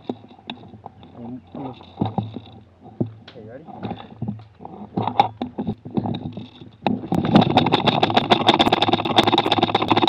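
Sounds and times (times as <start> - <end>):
scattered clicks: 0.0 - 10.0.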